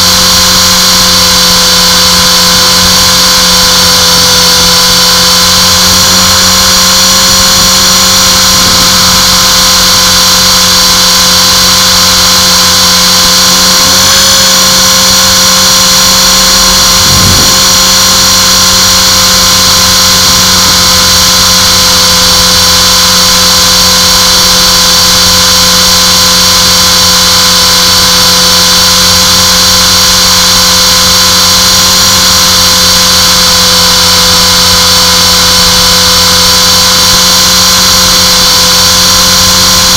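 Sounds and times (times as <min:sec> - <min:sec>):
helicopter rotor noise: 0:00.0 - 0:39.9
high-pitched motor whine: 0:00.0 - 0:39.9.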